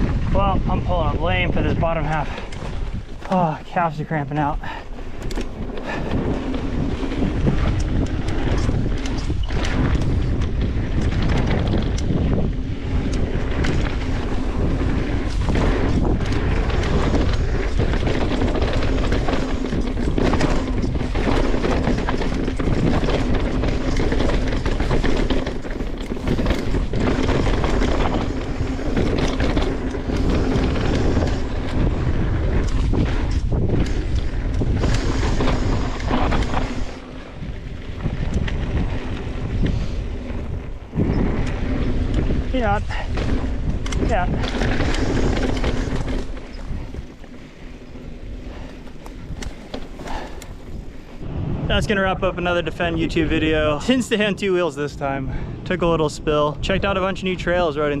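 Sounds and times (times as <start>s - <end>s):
bike knocks and rattles: 0.0s - 51.8s
tyres rumbling on dirt: 0.0s - 58.0s
wind buffeting microphone: 0.0s - 58.0s.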